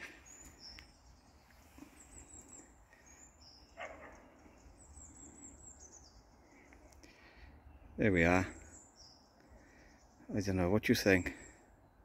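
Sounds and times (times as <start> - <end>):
birds chirping and whistling: 0.0 - 10.4.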